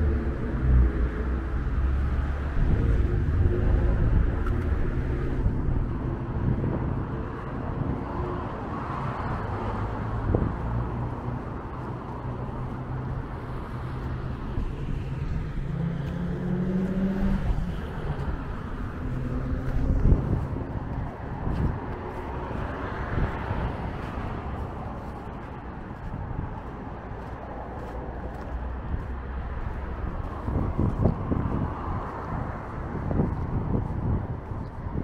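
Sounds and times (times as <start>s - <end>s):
car engine hum: 0.0s - 35.0s
passing cars rumbling: 0.0s - 35.0s.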